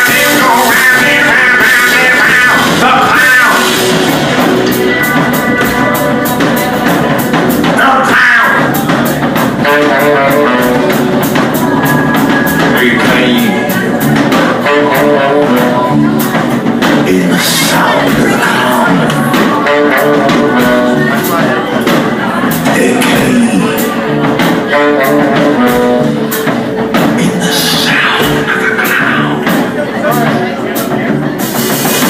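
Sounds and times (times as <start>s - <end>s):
drum kit beat: 0.0s - 32.0s
guitar: 0.0s - 32.0s.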